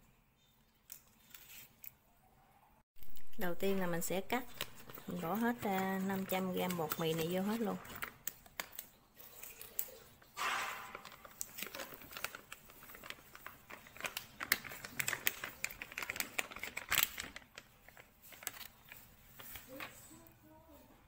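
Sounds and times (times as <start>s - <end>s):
plastic bag crinkling: 3.0s - 20.2s.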